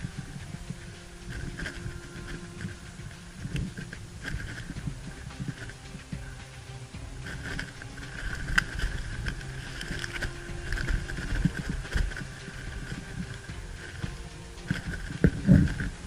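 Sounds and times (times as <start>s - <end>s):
camera handling rumble: 0.0s - 16.0s
footsteps on pine needles: 0.0s - 16.0s.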